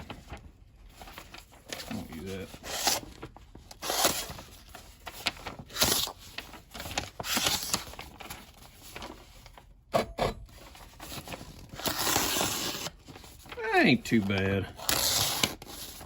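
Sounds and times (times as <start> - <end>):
paper rustling: 0.0 - 9.8, 10.5 - 16.0.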